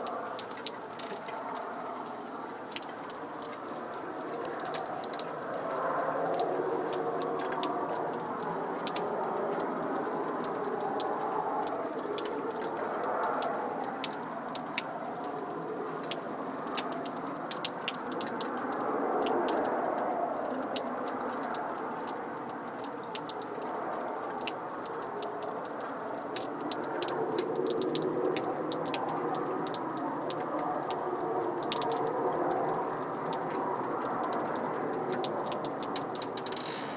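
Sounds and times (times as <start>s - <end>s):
rushing roar overhead: 0.0s - 36.9s.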